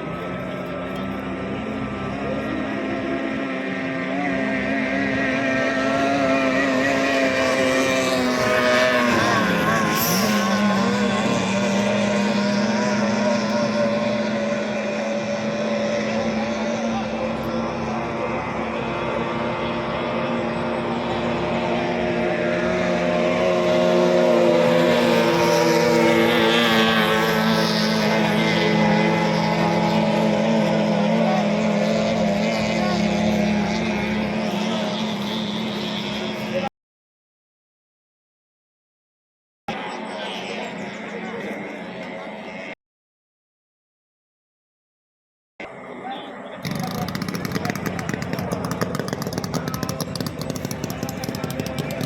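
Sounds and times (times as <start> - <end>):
outboard motors running: 0.0 - 36.7, 39.7 - 42.8, 45.6 - 52.0.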